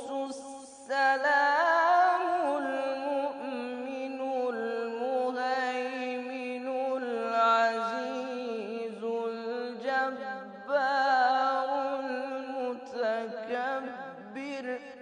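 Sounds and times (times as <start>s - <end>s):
boy chanting melodic recitation: 0.0s - 14.8s.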